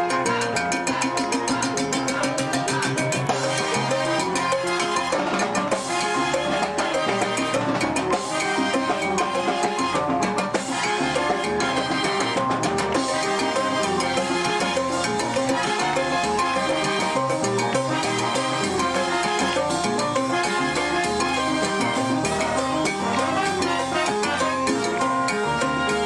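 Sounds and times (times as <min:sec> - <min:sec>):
salsa band playing: 0:00.0 - 0:26.0.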